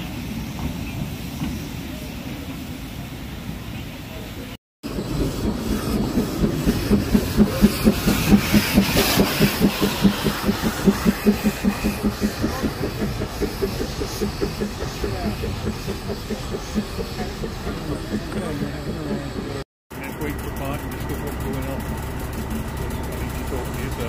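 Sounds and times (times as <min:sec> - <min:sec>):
steam hissing: 0:00.0 - 0:19.6
steam locomotive chuffing: 0:00.0 - 0:24.0.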